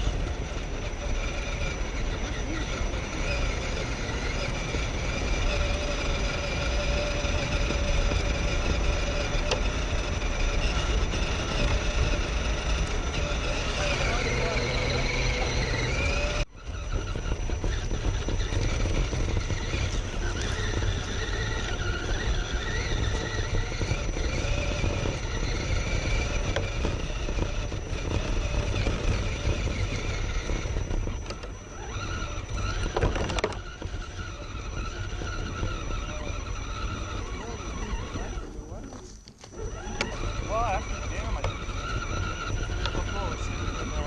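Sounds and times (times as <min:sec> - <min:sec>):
motor whine: 0:00.0 - 0:44.0
vehicle low rumble: 0:00.0 - 0:44.0.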